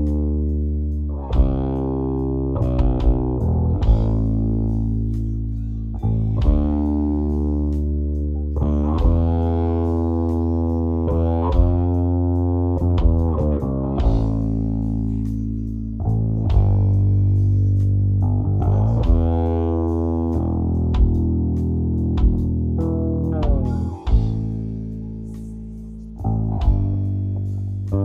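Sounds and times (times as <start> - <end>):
electric bass guitar notes: 0.0 - 28.0.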